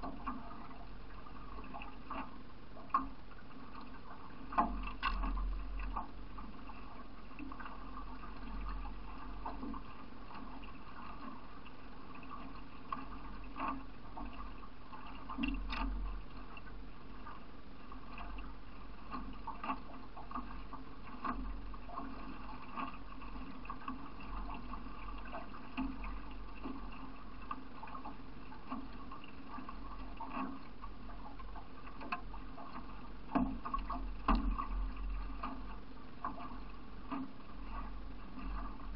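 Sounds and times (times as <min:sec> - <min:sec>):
water gurgling and splashing: 0:00.0 - 0:38.9.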